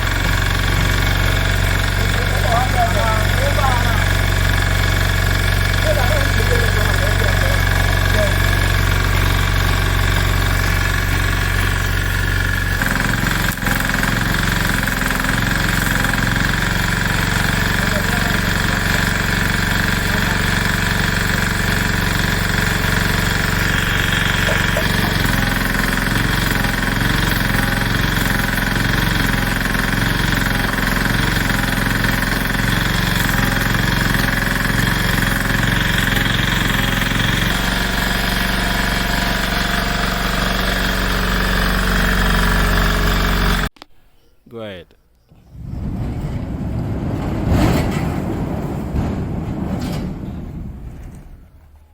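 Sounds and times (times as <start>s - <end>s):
engine running: 0.0s - 43.8s, 45.3s - 51.9s.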